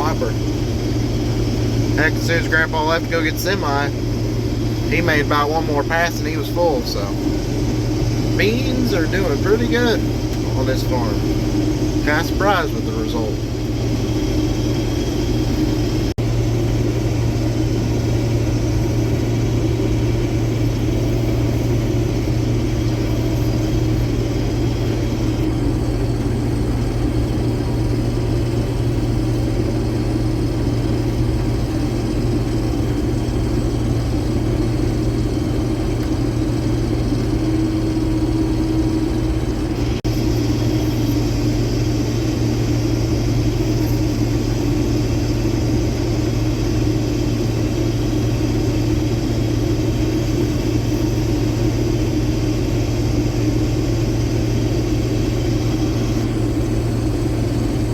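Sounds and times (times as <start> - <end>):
combine harvester engine drone: 0.0 - 57.9.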